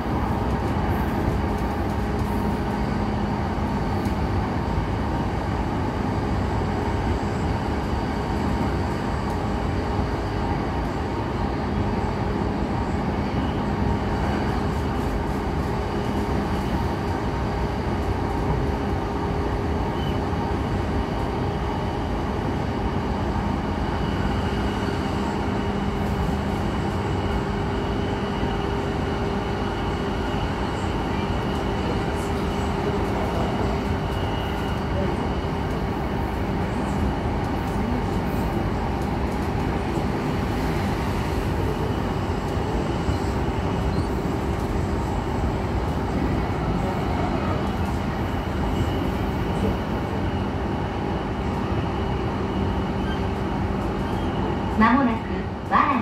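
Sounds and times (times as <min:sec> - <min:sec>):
train wheels on rails: 0:00.0 - 0:55.7.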